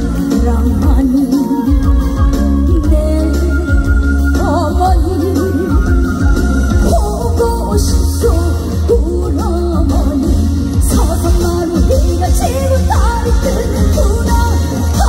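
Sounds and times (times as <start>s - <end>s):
amplified band with bass beat: 0.0s - 15.0s
woman singing with vibrato: 0.0s - 15.0s.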